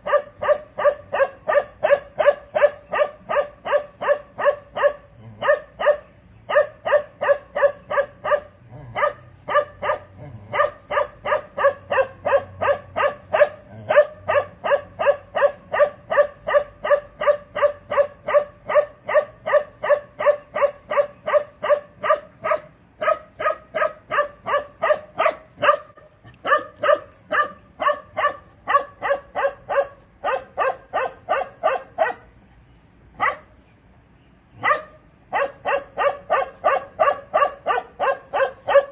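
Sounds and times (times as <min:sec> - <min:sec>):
dog barking: 0:00.0 - 0:32.3, 0:33.2 - 0:33.5, 0:34.6 - 0:38.9.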